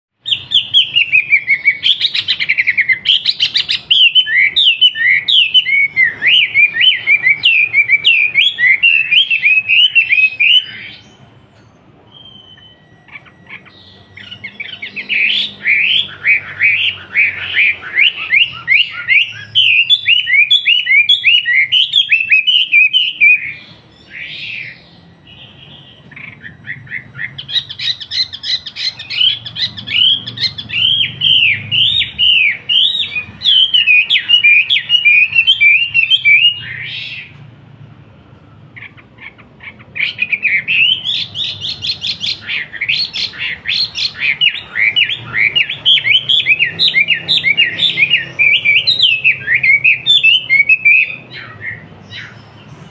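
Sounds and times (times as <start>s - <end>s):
songbird whistling: 0.2s - 37.4s, 38.3s - 52.9s.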